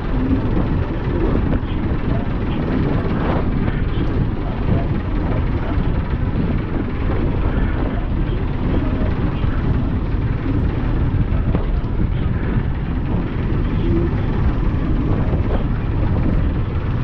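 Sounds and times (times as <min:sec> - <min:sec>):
ferry rumble and rushing: 0:00.0 - 0:17.0.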